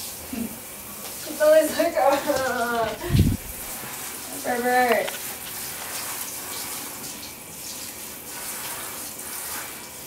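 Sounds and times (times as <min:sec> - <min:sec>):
shower spraying water: 0:00.0 - 0:10.0.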